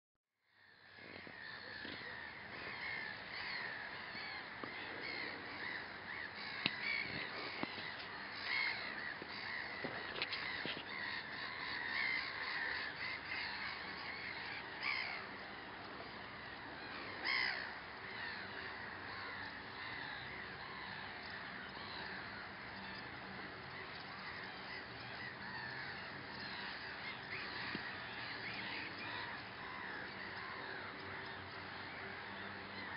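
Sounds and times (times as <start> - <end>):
many birds calling: 0.5 - 32.9.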